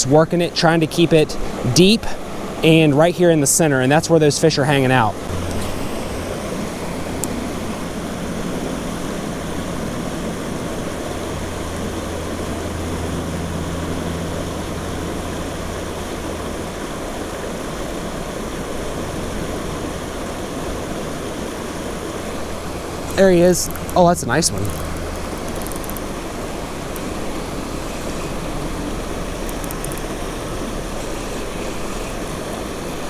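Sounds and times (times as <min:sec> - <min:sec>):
creek water rushing over falls: 0:00.0 - 0:33.0.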